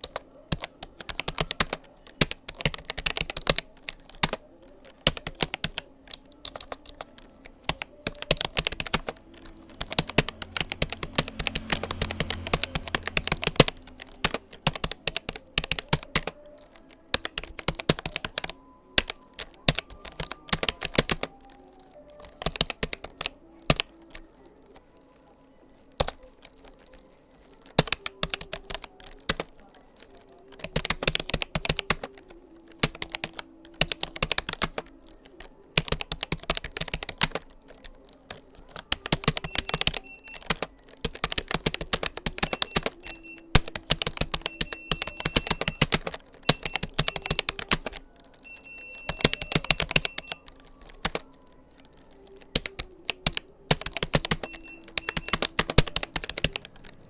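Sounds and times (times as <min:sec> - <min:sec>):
computer keyboard key clicks: 0:05.0 - 0:21.4, 0:22.2 - 0:24.3, 0:25.9 - 0:57.0.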